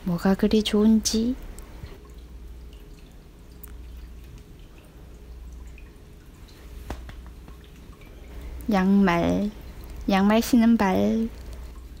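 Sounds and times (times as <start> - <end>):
low steady hum: 0.0 - 12.0
water fountain trickling: 0.0 - 12.0.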